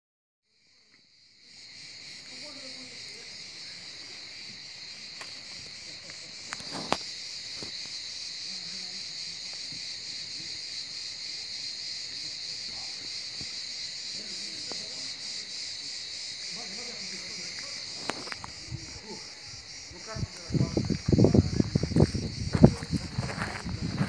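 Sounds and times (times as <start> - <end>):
insects chorus: 0.5 - 24.0.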